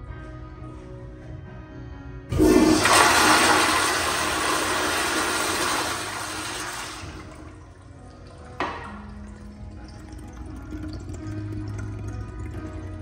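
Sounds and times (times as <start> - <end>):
toilet flushing water rush: 2.3 - 13.0.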